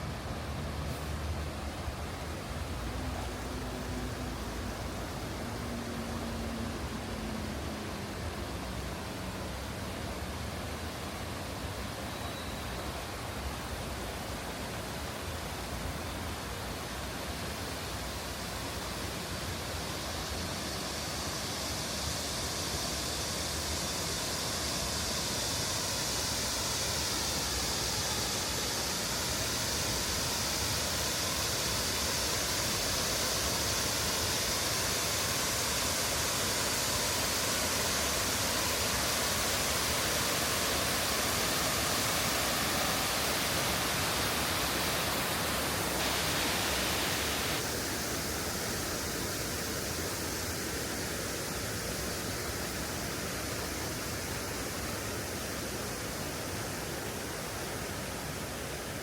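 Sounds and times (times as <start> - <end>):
water rushing over a cascade: 0.0 - 59.0.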